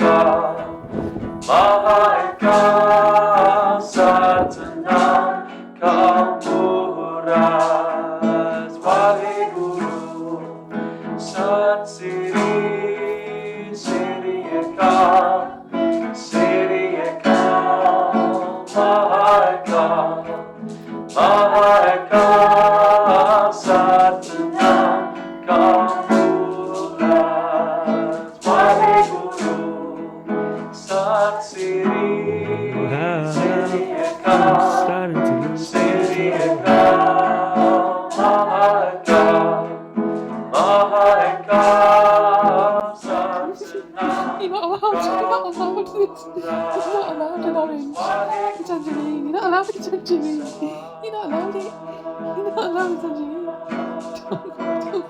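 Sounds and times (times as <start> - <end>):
person singing: 0.0 - 10.5, 11.2 - 20.4, 21.2 - 30.0, 30.6 - 39.6, 40.5 - 55.0
plucked guitar: 0.0 - 55.0.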